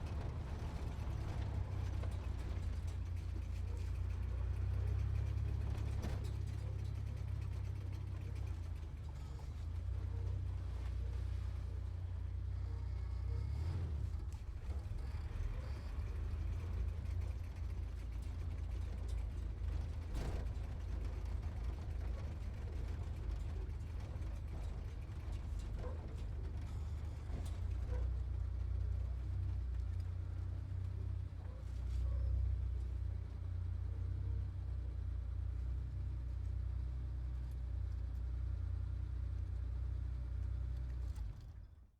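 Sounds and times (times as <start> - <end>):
car engine and road rumble: 0.0 - 41.9.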